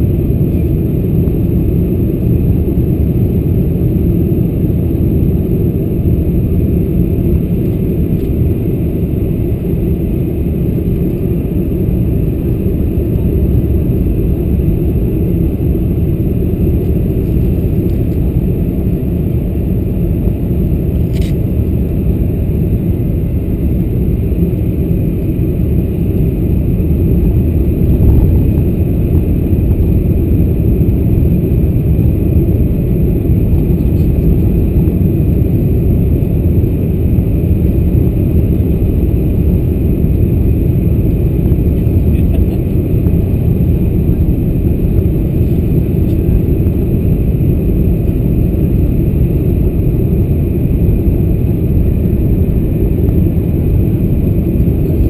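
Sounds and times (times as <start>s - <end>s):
airplane cabin noise: 0.0s - 55.0s.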